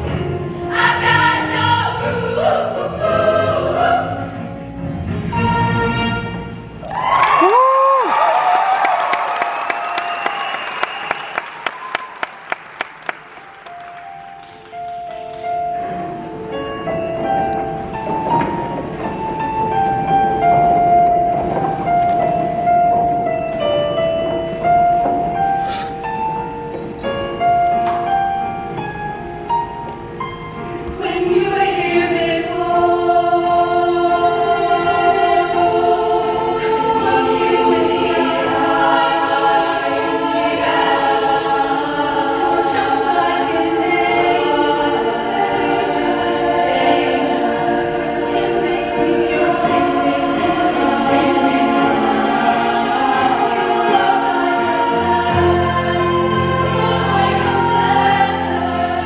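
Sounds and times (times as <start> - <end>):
women's choir singing in harmony: 0.0 - 7.5, 13.7 - 59.0.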